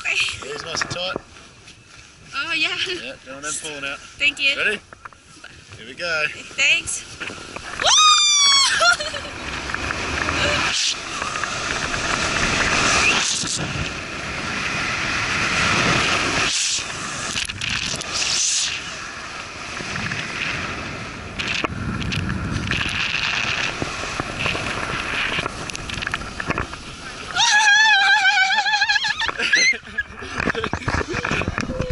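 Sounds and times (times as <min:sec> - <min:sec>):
wind buffeting microphone: 0:00.0 - 0:31.9
snow tube scraping over snow: 0:06.3 - 0:31.9.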